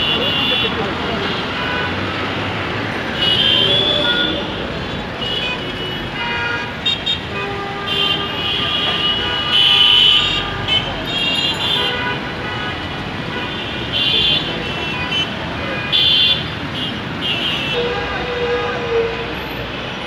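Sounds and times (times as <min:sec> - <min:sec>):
traffic engine noise: 0:00.0 - 0:20.0
vehicle horns honking: 0:00.0 - 0:20.0.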